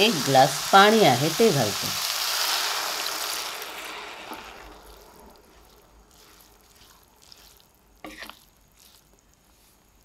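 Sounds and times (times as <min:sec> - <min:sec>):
beans sizzling in hot oil: 0:00.0 - 0:10.0.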